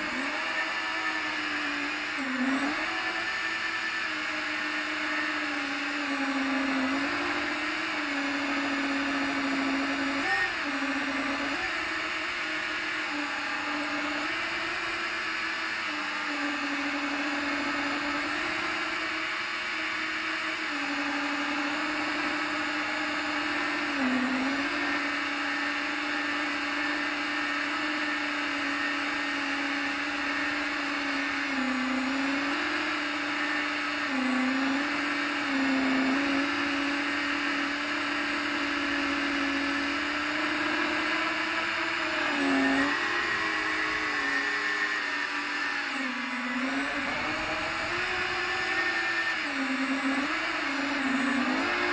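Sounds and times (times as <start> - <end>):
drone motors whining: 0.0 - 51.9.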